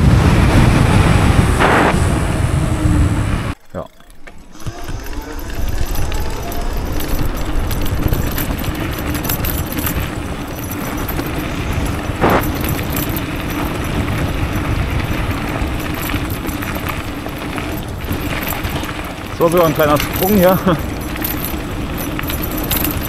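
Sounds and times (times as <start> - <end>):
bike rattling: 0.0 - 23.0
tyres rumbling on gravel: 0.0 - 23.0.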